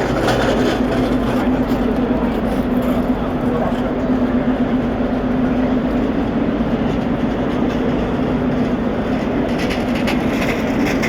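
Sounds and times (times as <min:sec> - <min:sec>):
train humming and rumbling: 0:00.0 - 0:11.0.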